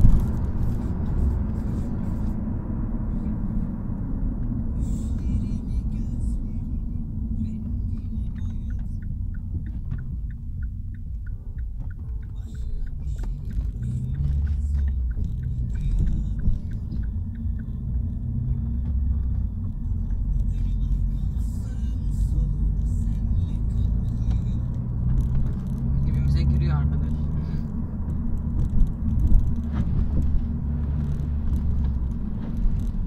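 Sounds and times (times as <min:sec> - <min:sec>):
car engine and road noise: 0:00.0 - 0:33.0
turn indicator ticking: 0:04.4 - 0:33.0.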